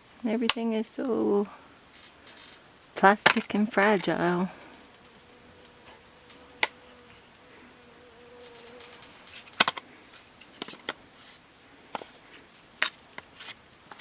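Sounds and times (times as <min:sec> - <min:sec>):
faint steady buzz: 0:00.0 - 0:12.8.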